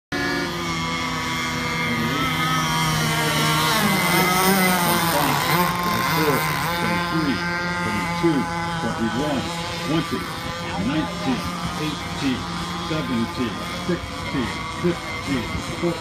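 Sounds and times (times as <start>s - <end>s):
rc boat motors whining: 0.1s - 16.0s.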